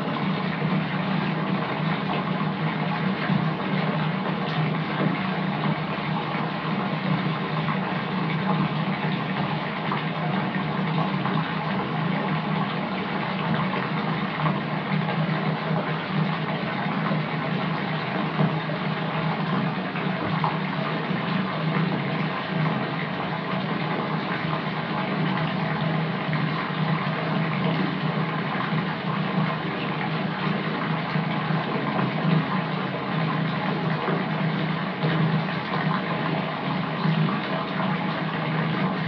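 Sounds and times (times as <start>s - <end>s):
tap water filling bathtub: 0.0s - 39.0s.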